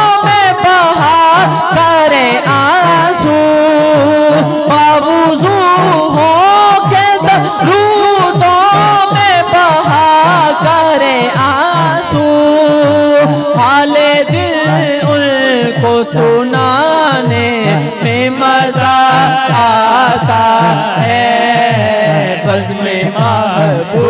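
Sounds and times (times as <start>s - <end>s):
man singing melodic line: 0.0s - 24.0s.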